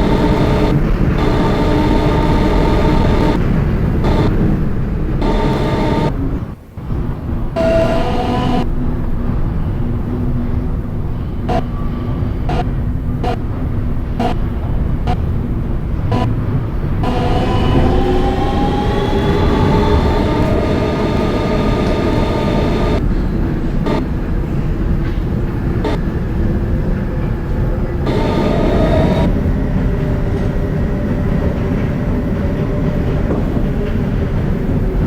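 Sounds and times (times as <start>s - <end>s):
traction motors whining: 0.0s - 6.6s, 7.3s - 8.8s, 11.1s - 24.6s, 27.8s - 34.8s
subway train wheels rumbling on rails: 0.0s - 35.0s.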